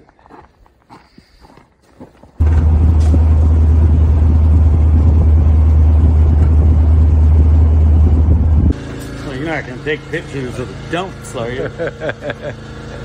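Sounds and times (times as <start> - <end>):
truck cab engine rumble: 2.4 - 13.0.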